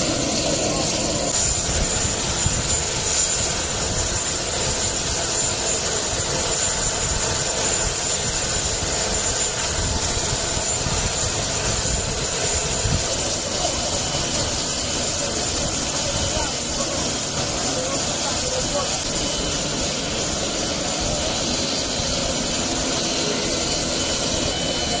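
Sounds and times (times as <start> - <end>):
aircraft turbine engine drone: 0.0 - 25.0.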